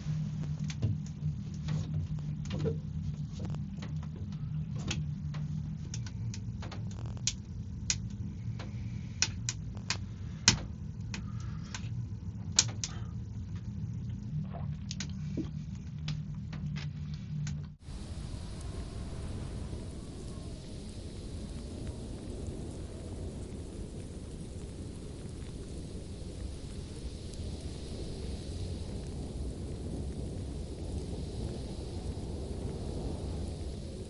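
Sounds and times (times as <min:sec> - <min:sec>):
low rumble: 0:00.0 - 0:34.0
wood fire crackling: 0:00.0 - 0:34.0.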